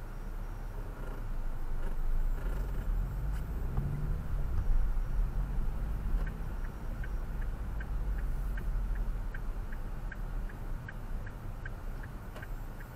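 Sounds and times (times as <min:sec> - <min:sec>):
engine and tyres on wet road: 0:00.0 - 0:12.9
turn signal ticking: 0:00.0 - 0:12.9.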